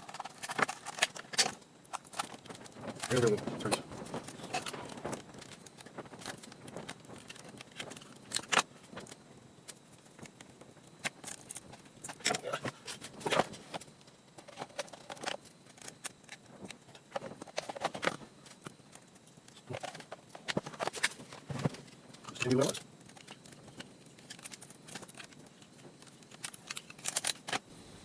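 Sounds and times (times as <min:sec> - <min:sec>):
plastic and metal parts clicking: 0:00.0 - 0:09.2, 0:10.2 - 0:27.6.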